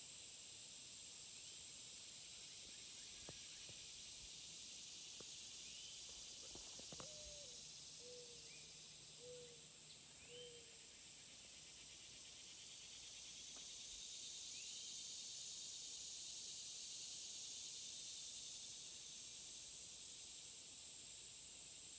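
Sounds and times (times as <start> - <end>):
insects chorus: 0.0 - 21.9.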